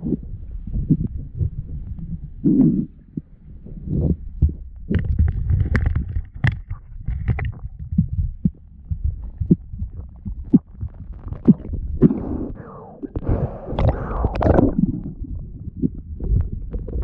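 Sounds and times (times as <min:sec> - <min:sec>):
low underwater rumble: 0:00.0 - 0:17.0
muffled underwater knocking: 0:00.0 - 0:17.0.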